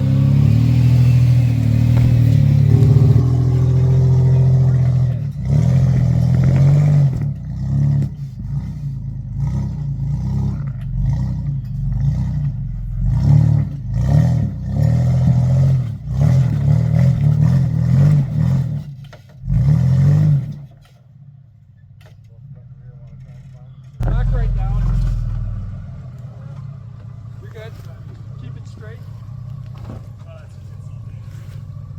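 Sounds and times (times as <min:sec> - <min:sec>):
truck engine revving: 0:00.0 - 0:20.7, 0:24.0 - 0:31.9.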